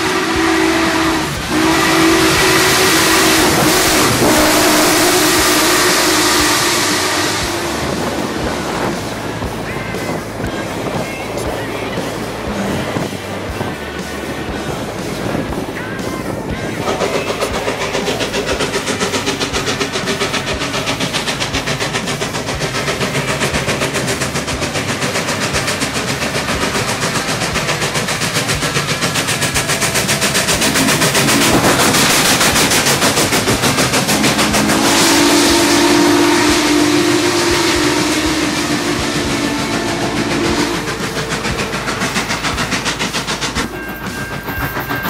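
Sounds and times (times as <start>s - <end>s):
steam whistle blast: 0.0s - 13.1s, 16.3s - 44.8s
steam locomotive exhaust beating: 0.0s - 45.0s.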